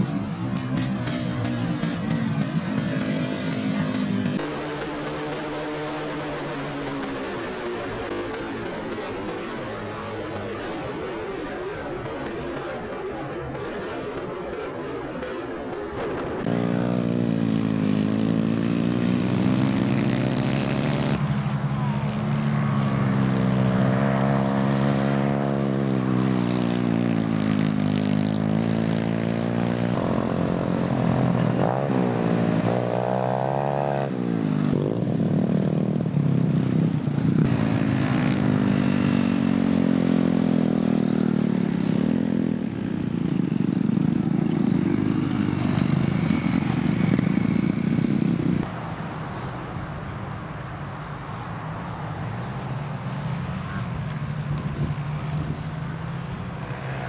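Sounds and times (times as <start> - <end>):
racing kart engines: 0.0 - 57.0.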